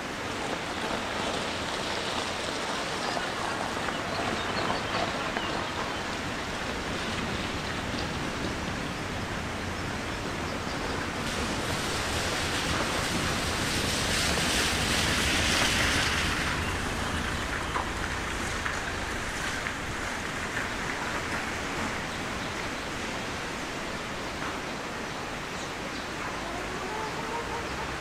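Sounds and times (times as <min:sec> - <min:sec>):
outdoor wind rushing: 0:00.0 - 0:28.0.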